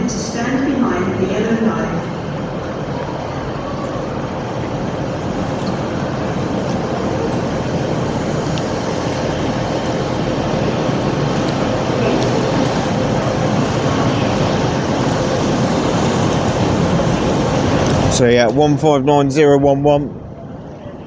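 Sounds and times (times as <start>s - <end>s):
wind buffeting microphone: 0.0s - 19.2s
diesel train engine idling: 0.0s - 21.0s.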